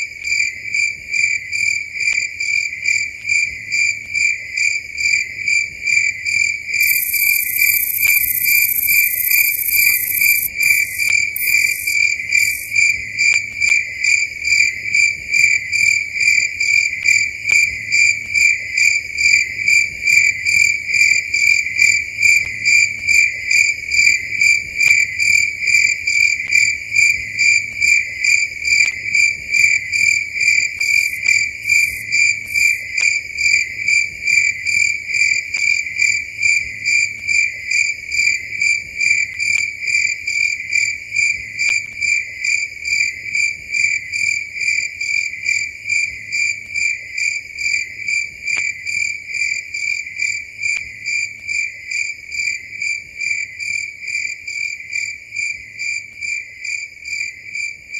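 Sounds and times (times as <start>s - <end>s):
cricket chirping: 0.3s - 57.8s.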